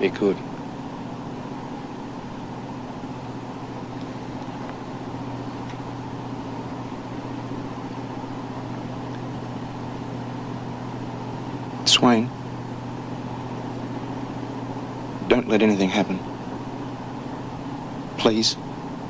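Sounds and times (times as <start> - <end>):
boat engines droning: 0.0 - 19.0.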